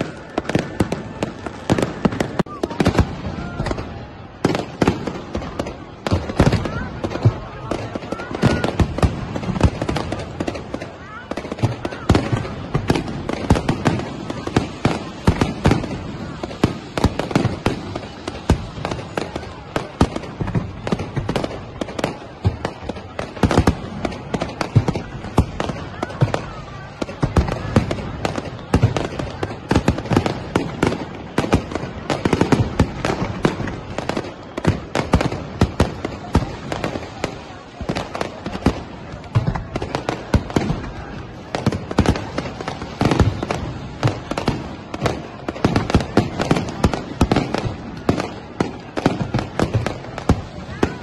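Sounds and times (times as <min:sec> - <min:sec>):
fireworks bangs and pops: 0:00.0 - 0:51.0.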